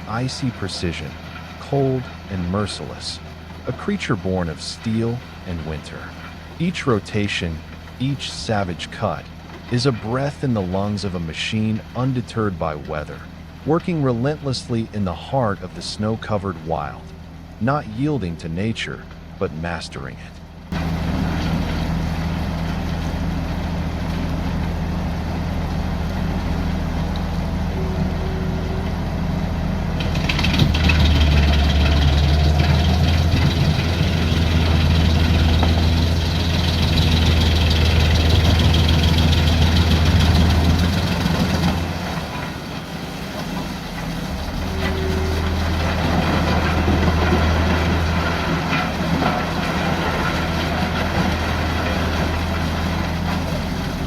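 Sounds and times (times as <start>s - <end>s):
wood chipper engine drone: 0.0s - 54.0s.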